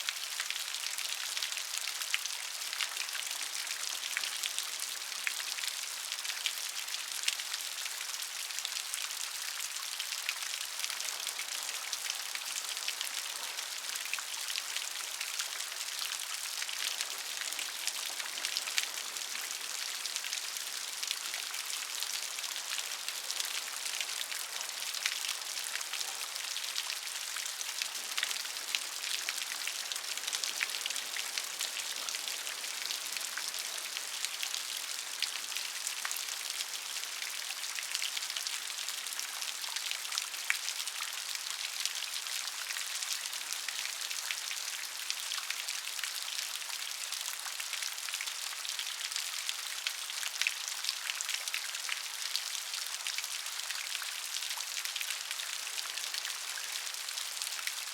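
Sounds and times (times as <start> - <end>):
rain drops pattering on a surface: 0.0 - 57.9.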